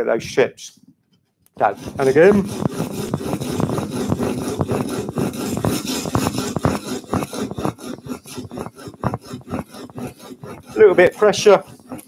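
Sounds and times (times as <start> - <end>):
chisel rasping on abrasive sheet: 1.6 - 12.0.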